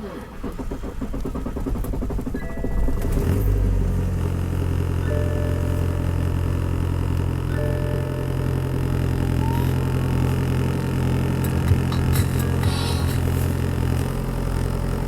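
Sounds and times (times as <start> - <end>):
diesel car engine running: 0.0 - 15.0.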